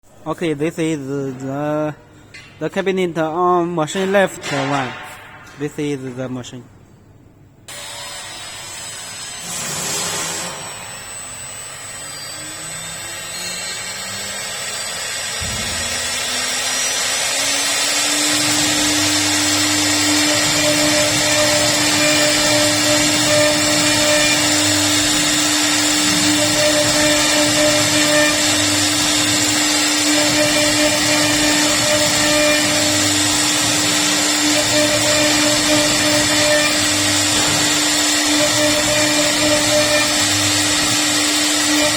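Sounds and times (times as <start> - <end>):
wood router spindle whine: 7.7 - 41.9.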